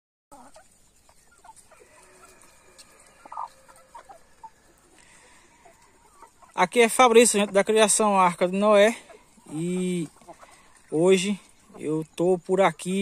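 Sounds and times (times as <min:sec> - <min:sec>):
chickens clucking: 0:00.3 - 0:13.0.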